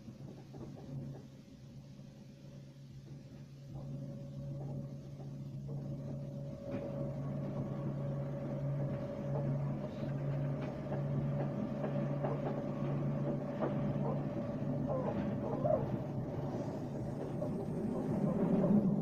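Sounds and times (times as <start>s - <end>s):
train rumble inside carriage: 0.0s - 19.0s
track clicks and rattles: 3.7s - 19.0s.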